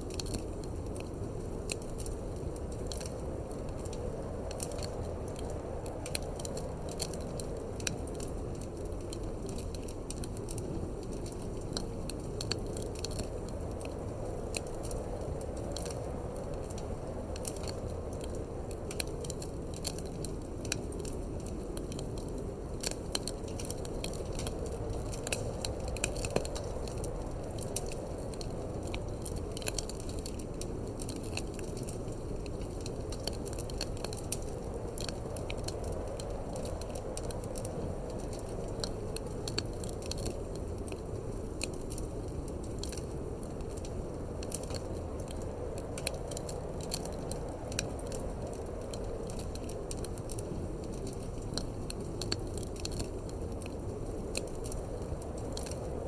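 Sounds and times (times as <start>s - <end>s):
fire pops and snaps: 0.0s - 56.0s
low rush of wind: 0.0s - 56.0s
wood fire crackling: 0.0s - 56.0s.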